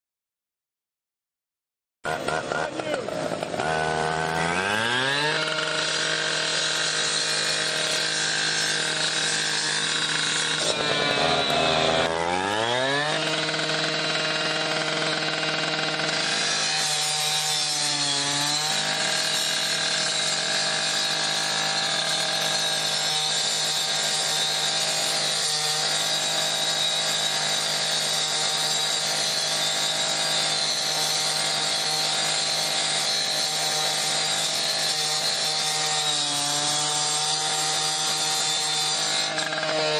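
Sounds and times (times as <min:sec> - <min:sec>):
cut-off saw engine revving: 0:02.1 - 0:39.9
saw blade cutting metal: 0:02.1 - 0:39.9.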